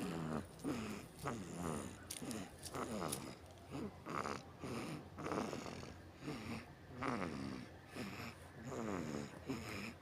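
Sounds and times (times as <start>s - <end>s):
baby snoring: 0.0s - 10.0s.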